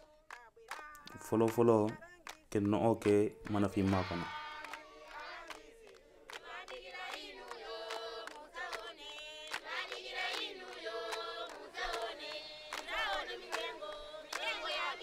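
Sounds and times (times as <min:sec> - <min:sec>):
chorus of voices singing: 0:00.0 - 0:02.0, 0:03.1 - 0:15.0.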